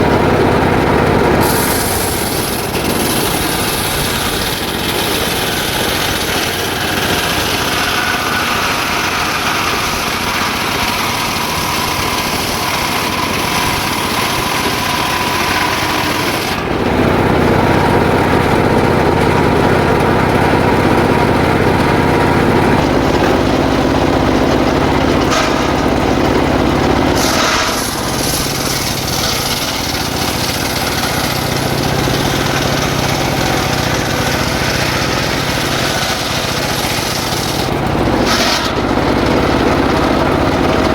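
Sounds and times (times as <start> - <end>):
circular saw ripping wood: 0.0 - 40.9.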